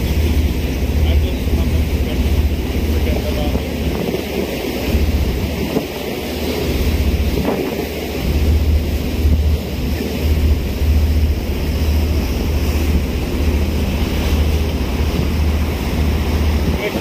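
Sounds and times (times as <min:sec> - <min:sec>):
water wash and boat noise: 0:00.0 - 0:17.0
wind buffeting microphone: 0:00.0 - 0:17.0.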